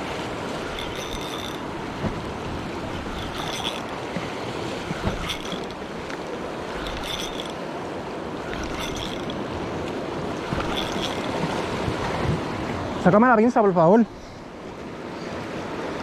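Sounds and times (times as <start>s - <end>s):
waves washing over rocks: 0.0s - 13.4s.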